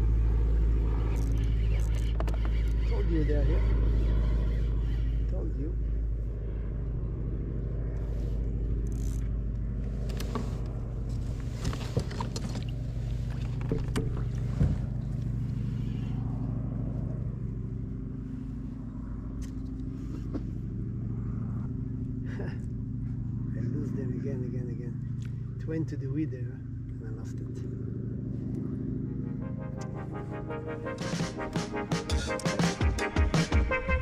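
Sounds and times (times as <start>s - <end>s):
low engine drone: 0.0s - 34.0s.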